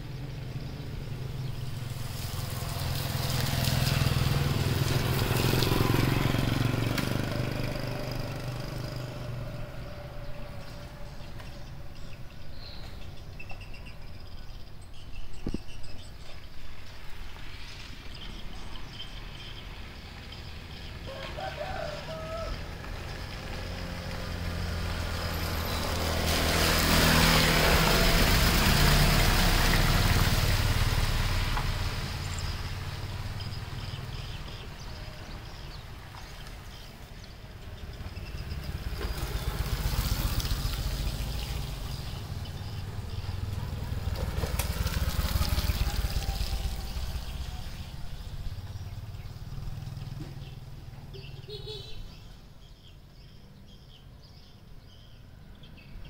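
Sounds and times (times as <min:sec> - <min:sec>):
vehicles passing by: 0:00.0 - 0:56.0.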